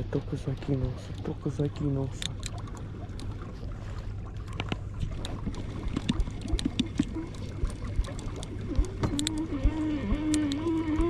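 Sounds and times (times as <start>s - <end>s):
water lapping against a boat: 0.0s - 11.0s.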